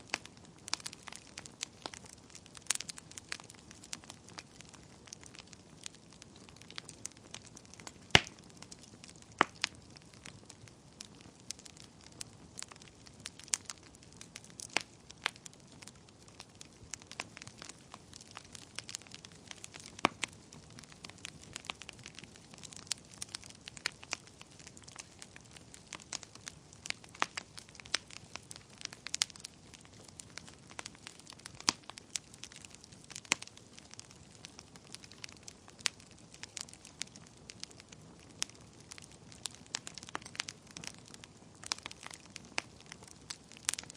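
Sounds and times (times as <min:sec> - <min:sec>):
faint steady hiss: 0:00.0 - 0:43.9
wood fire crackling and popping: 0:00.0 - 0:43.9.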